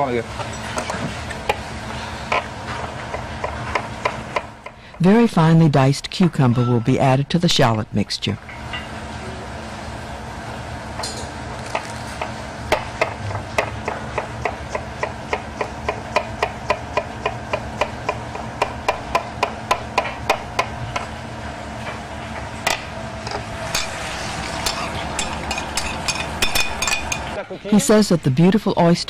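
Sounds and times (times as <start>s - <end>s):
kitchen hum: 0.0s - 29.0s.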